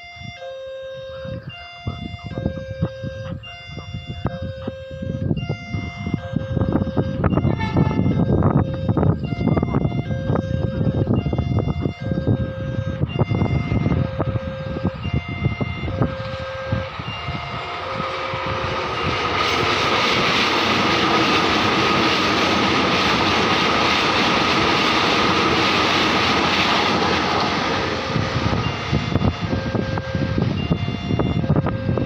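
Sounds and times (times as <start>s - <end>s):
level-crossing alarm tones: 0.0s - 32.0s
train wheels rumbling on rails: 5.4s - 32.0s.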